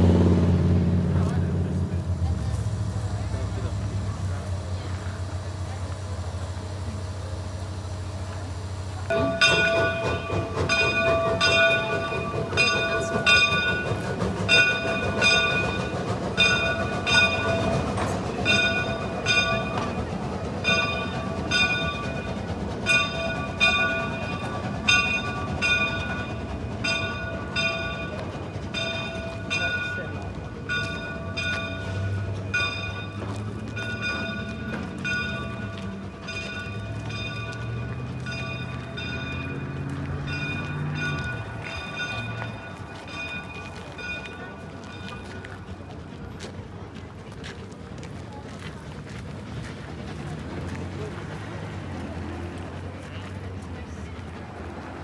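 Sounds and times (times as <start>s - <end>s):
steam locomotive rumbling: 0.0s - 55.0s
locomotive bell ringing: 0.7s - 47.0s.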